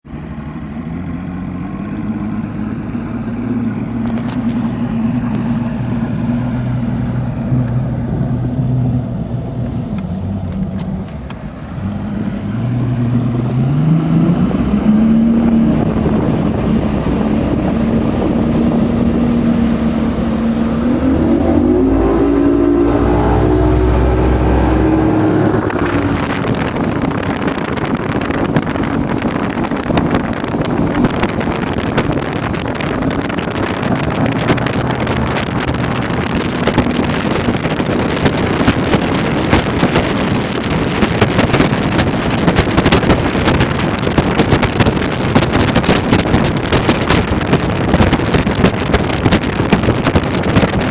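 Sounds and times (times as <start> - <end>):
constant rushing noise: 0.0 - 50.9
engine speeding up: 0.0 - 50.9.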